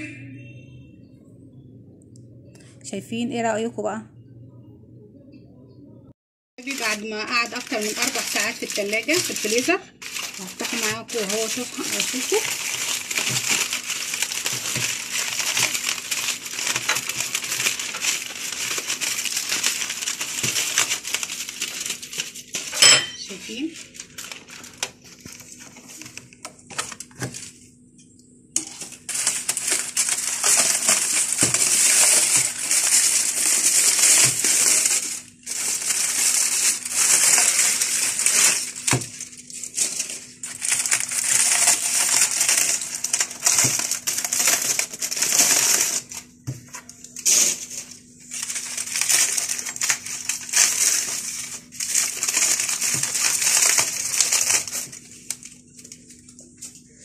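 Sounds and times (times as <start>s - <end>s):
aluminium foil crinkling: 6.6s - 27.7s, 28.6s - 57.0s.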